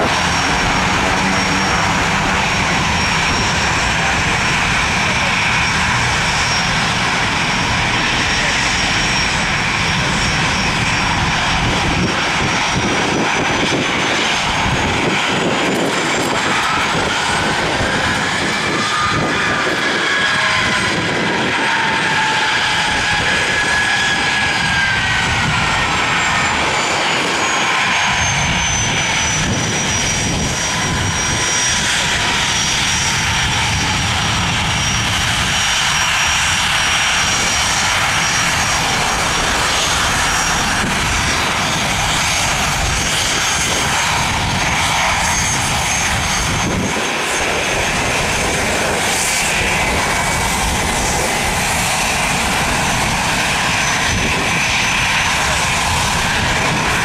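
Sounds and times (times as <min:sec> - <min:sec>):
aircraft engines running: 0:00.0 - 0:57.0
high engine whine: 0:00.0 - 0:57.0.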